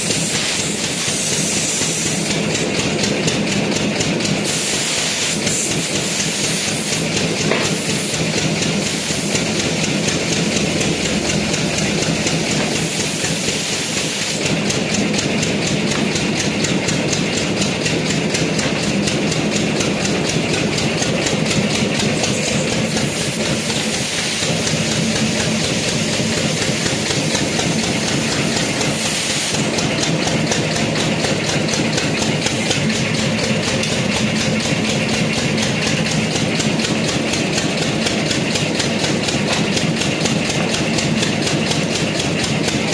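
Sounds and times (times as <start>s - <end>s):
machinery pulsing with low hum: 7.1s - 42.9s.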